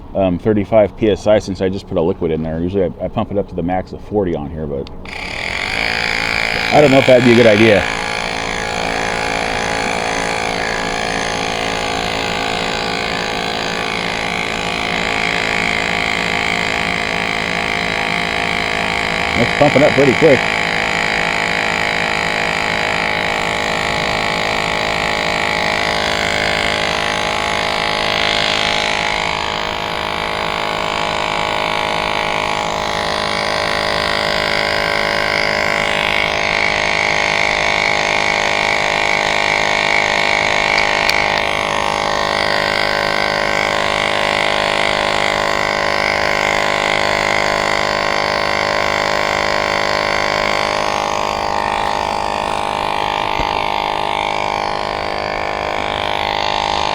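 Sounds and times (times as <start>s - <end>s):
electric tyre inflator droning: 0.0s - 56.9s.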